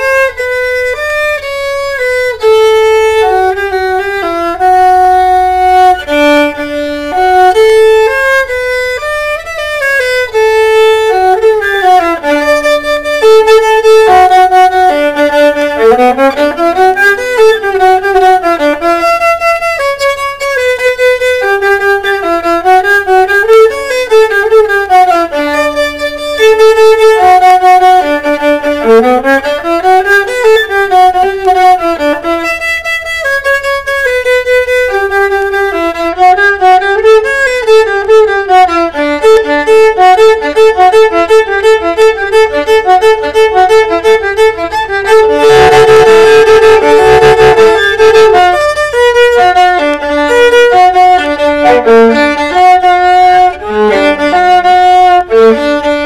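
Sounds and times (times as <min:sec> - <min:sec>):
solo viola playing: 0:00.0 - 0:56.0.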